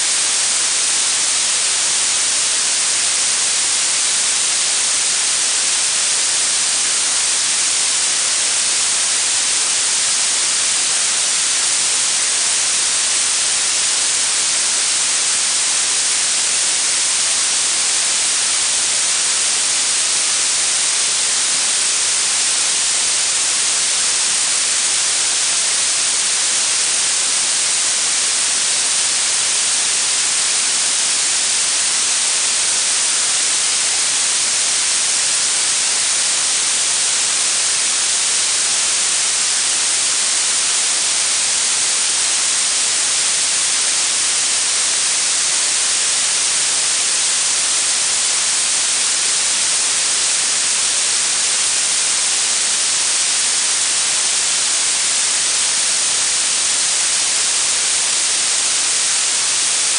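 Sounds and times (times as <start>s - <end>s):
blue noise hiss: 0.0s - 59.9s.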